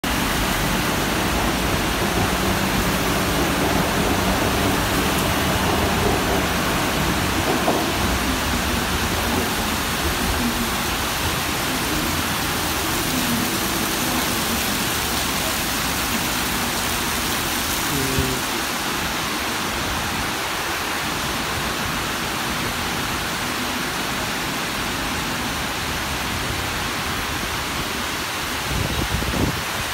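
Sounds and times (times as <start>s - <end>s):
heavy rain pouring: 0.0s - 29.9s
water running off roof: 0.0s - 29.9s.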